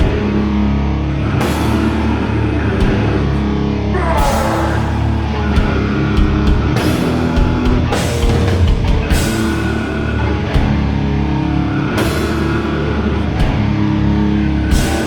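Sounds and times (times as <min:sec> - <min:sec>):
bass guitar: 0:00.0 - 0:15.0
distorted guitars: 0:00.0 - 0:15.0
drums: 0:00.0 - 0:15.0.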